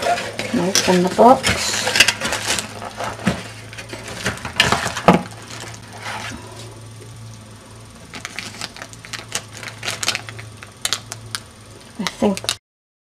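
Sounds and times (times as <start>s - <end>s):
plastic packaging crinkling: 0.0s - 6.0s, 8.0s - 12.6s
low hum: 0.0s - 12.6s.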